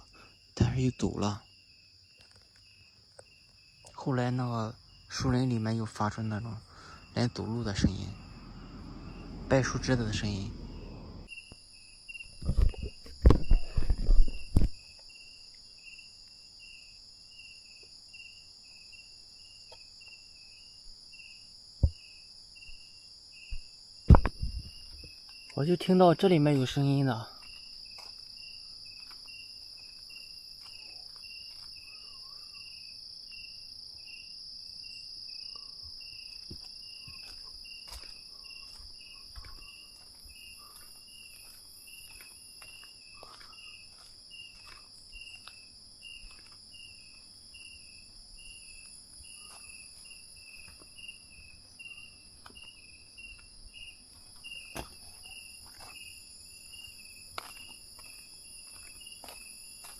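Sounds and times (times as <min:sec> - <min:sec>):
insect chirping: 0:00.0 - 0:59.9
insects trilling: 0:00.0 - 0:59.9.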